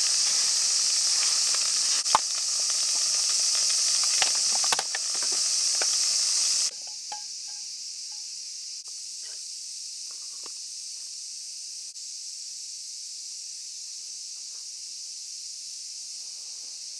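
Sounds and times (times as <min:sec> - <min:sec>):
food sizzling in a pan: 0:00.0 - 0:16.9
steady high hiss: 0:00.0 - 0:16.9.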